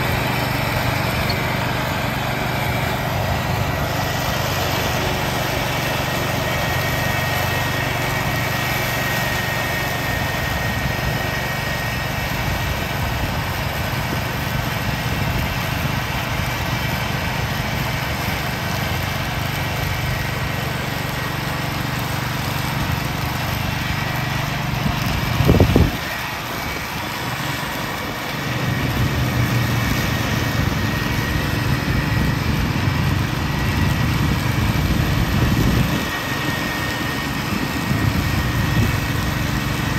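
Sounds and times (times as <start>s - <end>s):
blades chopping leaves: 0.0s - 39.9s
tractor engine drone: 0.0s - 39.9s.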